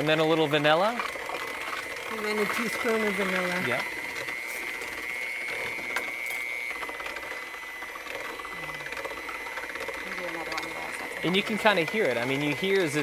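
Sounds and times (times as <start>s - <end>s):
electric hand mixer whining: 0.0s - 13.0s.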